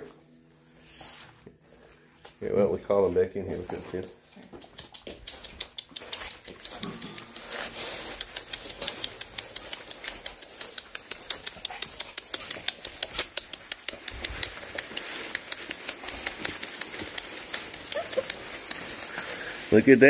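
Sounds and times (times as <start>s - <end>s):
puppies rustling shredded paper: 0.3s - 4.1s, 6.1s - 20.0s.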